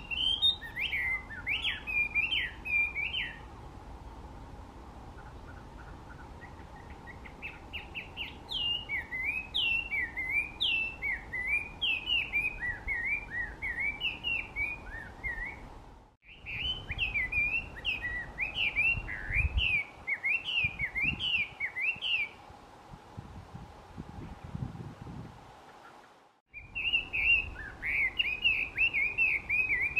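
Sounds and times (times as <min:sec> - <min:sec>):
bird singing whistled notes: 0:00.0 - 0:03.5, 0:05.2 - 0:22.4, 0:26.5 - 0:29.9.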